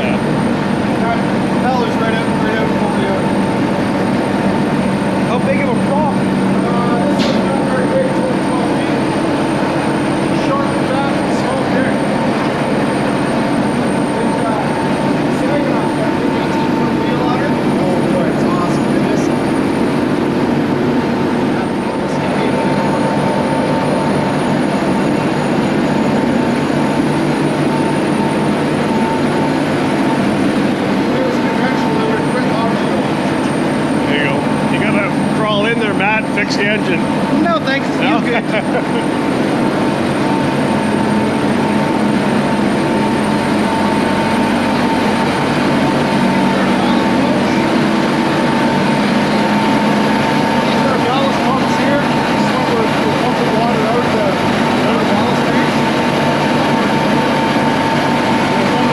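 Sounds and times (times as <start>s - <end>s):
constant mechanical whine: 0.0s - 58.9s
ship machinery drone: 0.0s - 58.9s.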